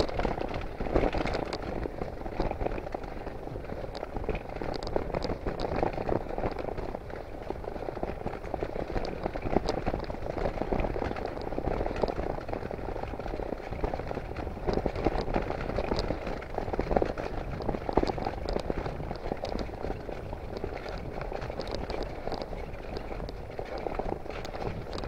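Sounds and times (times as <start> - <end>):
bicycle clicks and rattles: 0.0 - 25.0
wind and road noise: 0.0 - 25.0.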